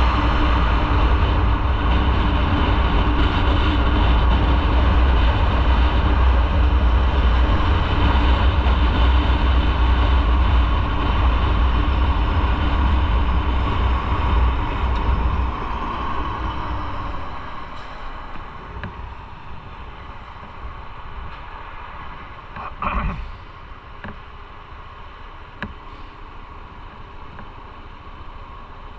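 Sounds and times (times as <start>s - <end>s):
motorcycle engine rumble: 0.0s - 28.9s
road and wind noise: 0.0s - 28.9s.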